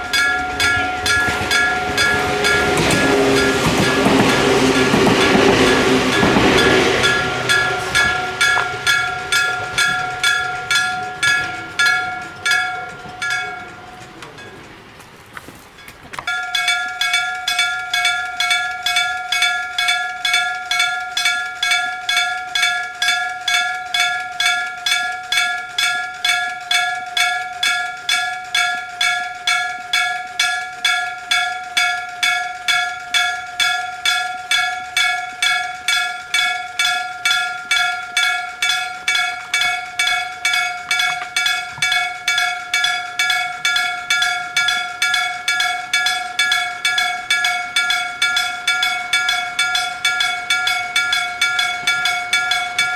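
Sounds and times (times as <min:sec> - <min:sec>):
level crossing bell ringing: 0:00.0 - 0:15.0, 0:15.8 - 0:52.9.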